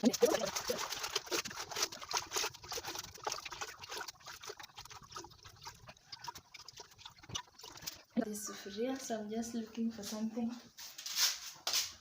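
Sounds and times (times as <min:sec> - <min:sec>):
water splashing and trickling: 0:00.0 - 0:10.1.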